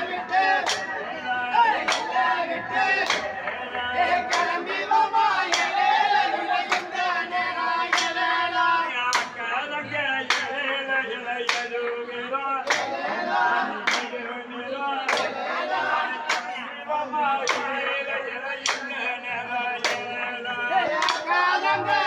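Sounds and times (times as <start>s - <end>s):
hands clapping in unison: 0.0s - 14.3s, 15.0s - 16.7s, 17.4s - 22.0s
men singing folk song: 0.0s - 22.0s.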